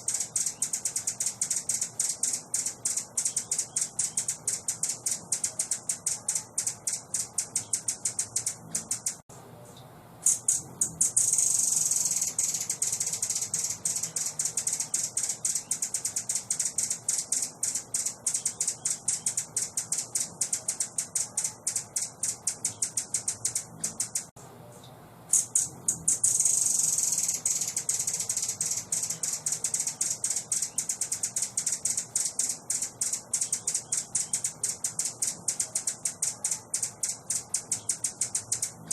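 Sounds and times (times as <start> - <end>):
songbird chattering: 0.0 - 9.2, 10.2 - 24.3, 25.3 - 38.9.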